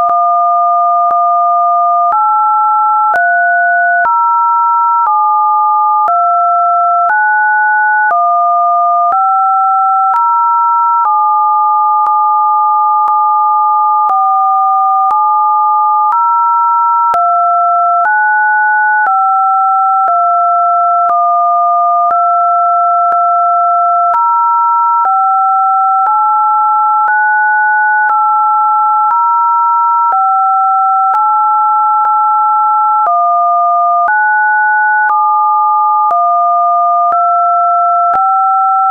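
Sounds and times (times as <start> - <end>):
sine tones stepping in pitch: 0.0 - 38.9.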